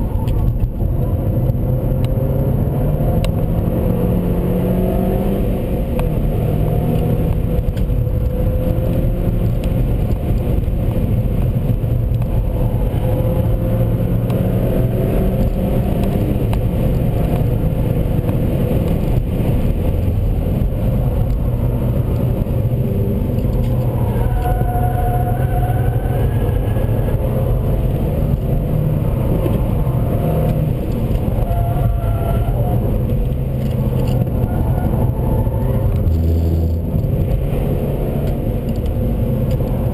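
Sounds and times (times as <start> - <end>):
road and wind rumble: 0.0 - 39.9.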